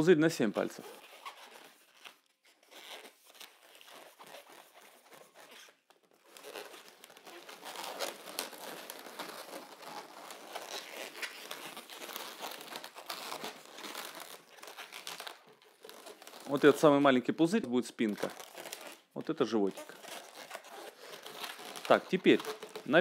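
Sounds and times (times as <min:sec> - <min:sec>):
latex balloons crinkling: 0:00.0 - 0:23.0.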